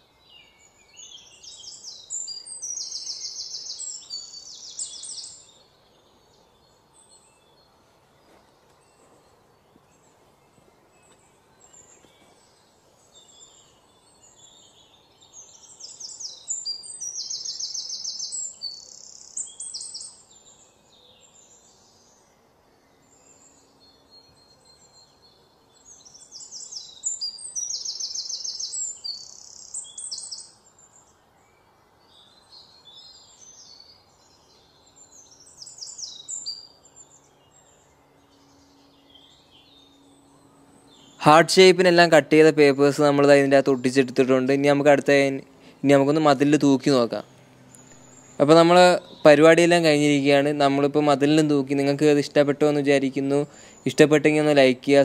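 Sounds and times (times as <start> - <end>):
bird trilled chirping: 0.0 - 55.0.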